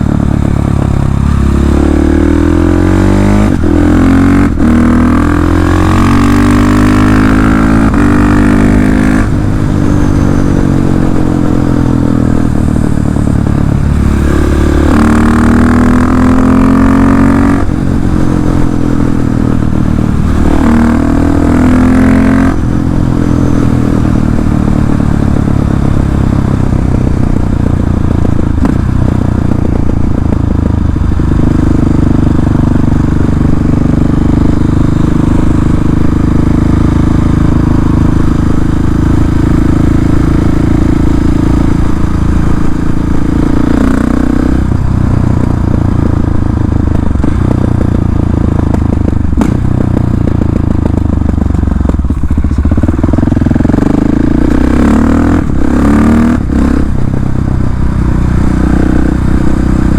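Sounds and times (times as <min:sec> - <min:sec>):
single-cylinder motorcycle engine: 0:00.0 - 0:59.9.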